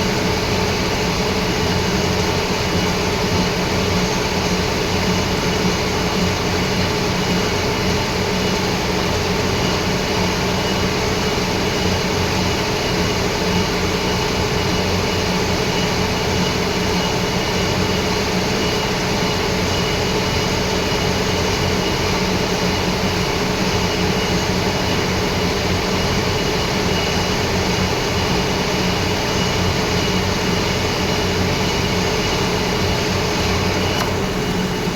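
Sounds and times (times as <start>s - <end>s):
lathe running: 0.0s - 34.9s.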